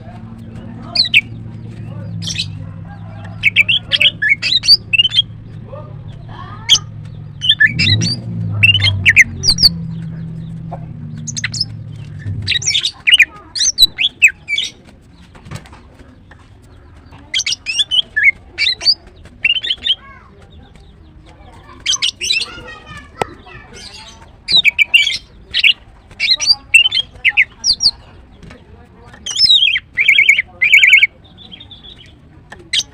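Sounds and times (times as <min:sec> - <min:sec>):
bird chirping and squawking: 0:00.0 - 0:15.3, 0:16.2 - 0:20.9, 0:21.5 - 0:28.4, 0:29.2 - 0:32.9.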